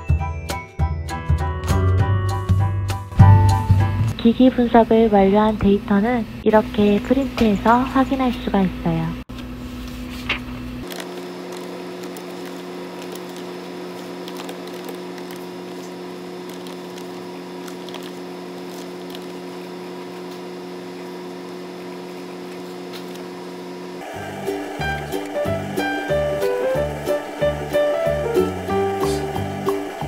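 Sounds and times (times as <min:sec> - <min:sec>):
low electrical hum: 0:04.1 - 0:30.0.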